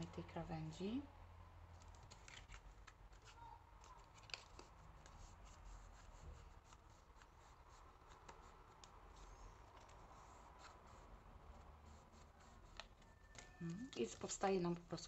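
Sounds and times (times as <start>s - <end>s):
paper rustling and crackling: 1.8s - 15.0s.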